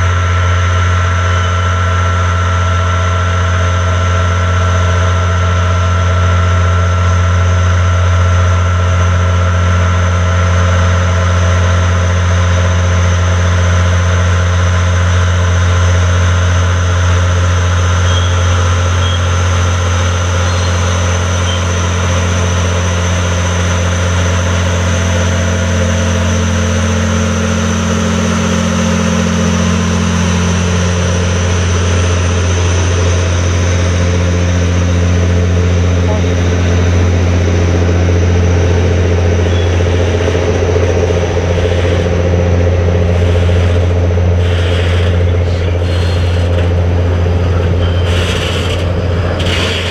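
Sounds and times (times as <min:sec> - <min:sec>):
diesel locomotive engine droning: 0:00.0 - 0:49.9.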